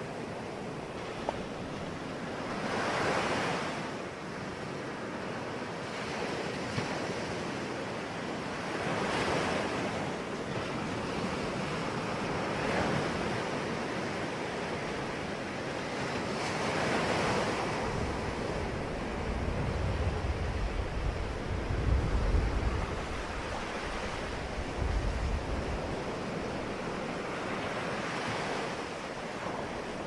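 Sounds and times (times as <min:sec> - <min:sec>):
sea waves breaking: 0:00.0 - 0:30.0
wind rumble on microphone: 0:05.8 - 0:30.0.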